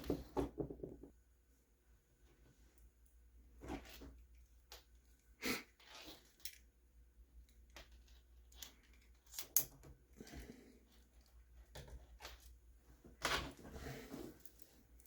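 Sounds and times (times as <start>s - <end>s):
rustles and clicks of small parts: 2.3s - 6.8s, 7.4s - 15.0s.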